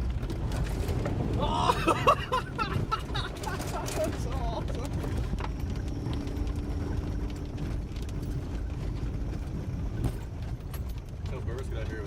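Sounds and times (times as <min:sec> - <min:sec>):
car engine droning: 0:00.0 - 0:12.0
low rumble: 0:00.0 - 0:12.0.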